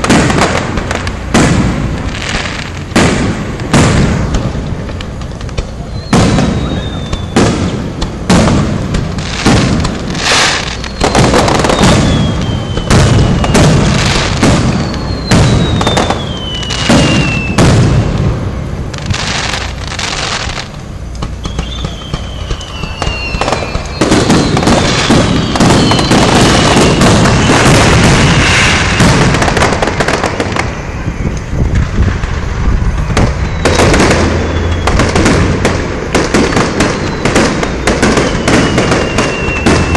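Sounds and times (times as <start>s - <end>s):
firework shells bursting: 0.0s - 39.9s
falling firework whistle: 5.6s - 18.2s, 19.0s - 39.9s.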